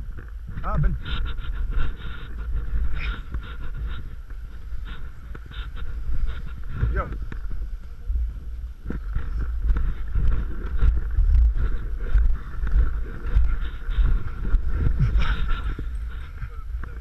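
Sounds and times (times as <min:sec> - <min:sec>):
wind rumble on microphone: 0:00.0 - 0:17.0
snowboard scraping over snow: 0:00.6 - 0:17.0.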